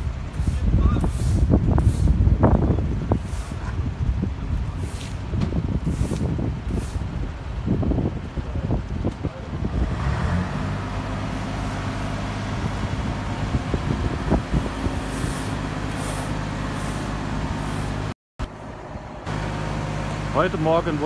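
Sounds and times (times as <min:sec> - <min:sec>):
diesel truck engine droning: 0:00.0 - 0:21.0.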